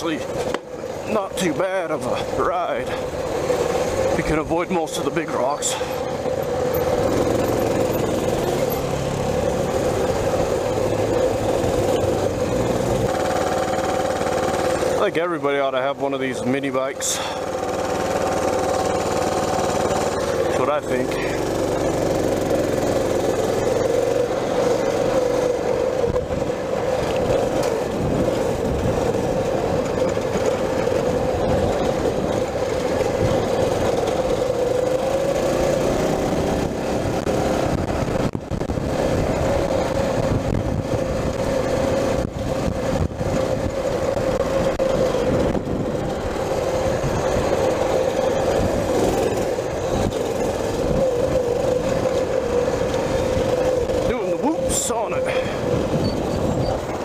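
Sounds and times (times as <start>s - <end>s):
small motorbike engine running: 0.0s - 57.0s.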